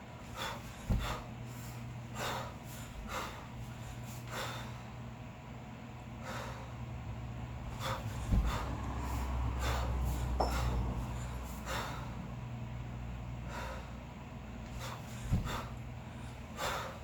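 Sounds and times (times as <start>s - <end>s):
sharp forceful breaths: 0.2s - 5.0s, 6.1s - 6.9s, 7.6s - 12.3s, 13.3s - 17.0s.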